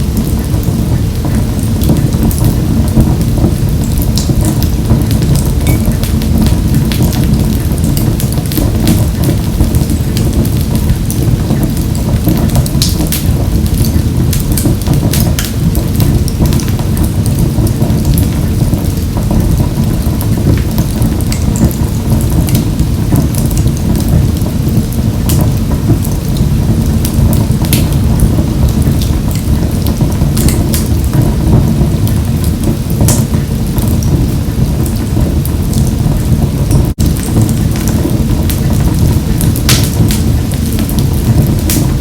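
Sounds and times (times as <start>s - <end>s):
fire crackling and popping: 0.0s - 42.0s
fire flames rumbling: 0.0s - 42.0s.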